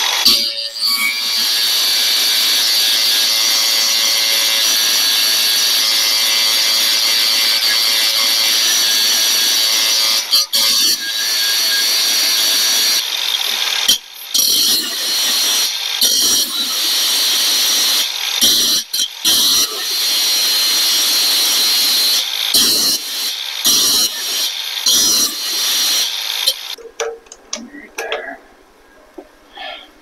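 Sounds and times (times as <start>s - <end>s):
angle grinder grinding steel: 0.0s - 26.8s.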